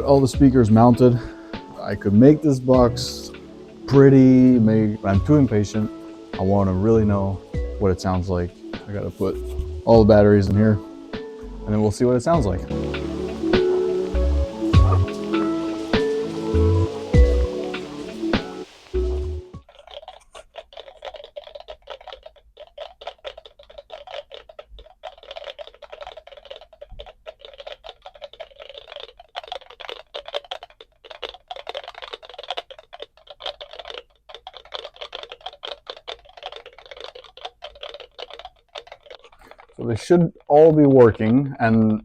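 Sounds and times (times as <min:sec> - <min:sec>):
dense irregular clicking: 0:00.0 - 0:42.0.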